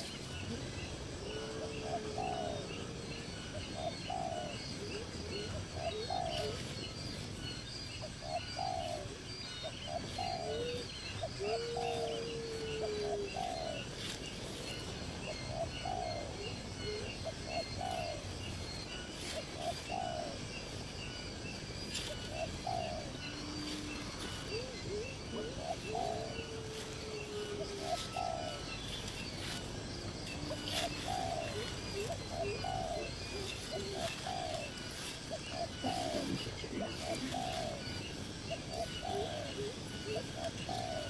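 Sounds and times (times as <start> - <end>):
bird long steady note: 0.0 - 41.0.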